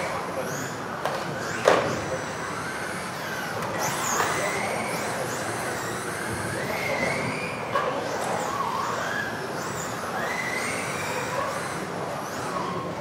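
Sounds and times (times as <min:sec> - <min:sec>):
electric rc car motors whining: 0:00.0 - 0:13.0.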